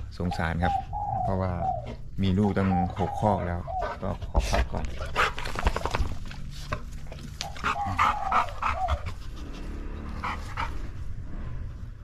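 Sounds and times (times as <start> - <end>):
dog panting: 0.4 - 11.0.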